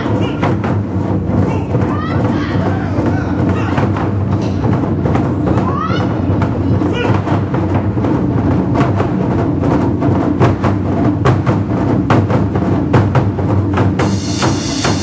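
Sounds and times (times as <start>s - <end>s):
taiko drum ensemble playing: 0.0s - 15.0s.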